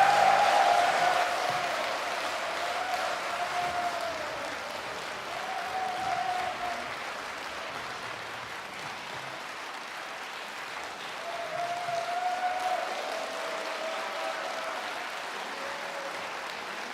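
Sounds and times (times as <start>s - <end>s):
audience applauding: 0.0s - 16.9s.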